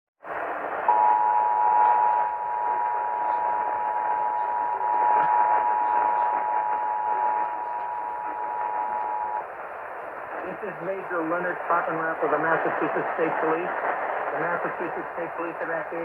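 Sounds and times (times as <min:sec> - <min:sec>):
radio static hiss: 0:00.2 - 0:16.0.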